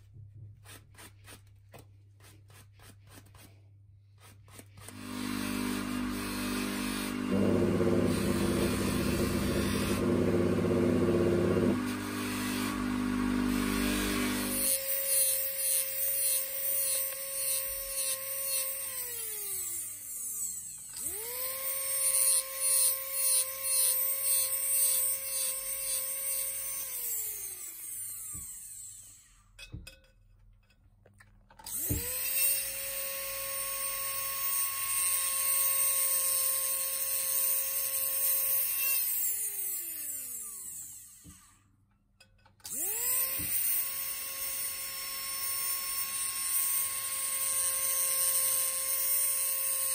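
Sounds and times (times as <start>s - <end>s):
rotary tool whining: 4.5s - 29.3s, 31.6s - 41.6s, 42.6s - 49.9s.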